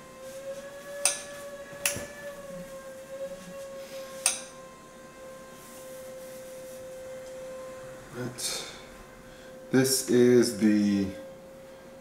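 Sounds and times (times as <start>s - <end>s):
steady wavering hum: 0.0s - 12.0s.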